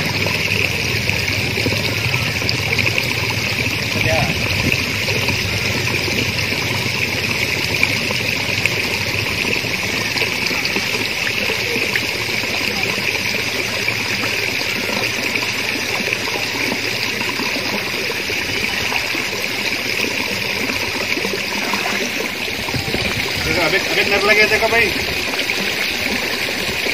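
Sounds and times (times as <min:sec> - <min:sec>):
water flowing over rocks: 0:00.0 - 0:26.9.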